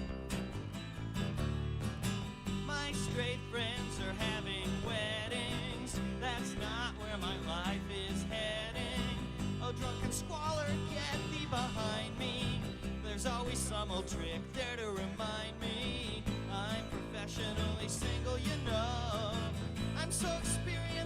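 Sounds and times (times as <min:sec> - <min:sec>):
bass line: 0:00.0 - 0:21.0
strummed acoustic guitars: 0:00.0 - 0:21.0.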